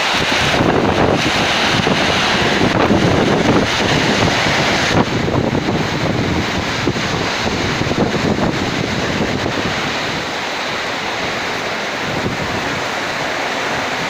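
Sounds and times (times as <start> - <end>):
heavy rain: 0.0 - 14.0
wind buffeting microphone: 0.0 - 14.0.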